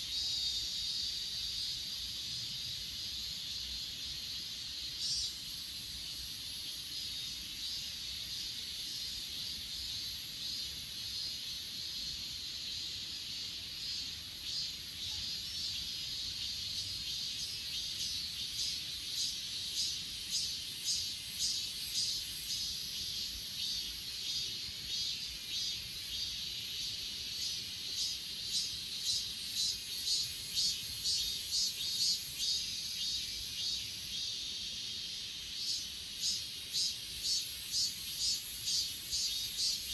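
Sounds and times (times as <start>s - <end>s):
insect high trill: 0.0s - 39.9s
insect rhythmic chirping: 0.0s - 39.9s.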